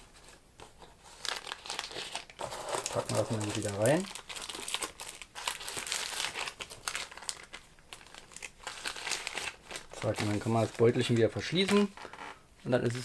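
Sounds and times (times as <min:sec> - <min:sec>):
pouch crinkling and rustling: 0:01.1 - 0:12.4.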